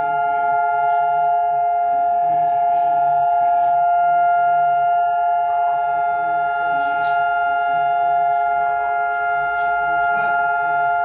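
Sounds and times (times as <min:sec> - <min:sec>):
emergency alert alarm tone: 0:00.0 - 0:11.0
faint voice: 0:00.0 - 0:11.0.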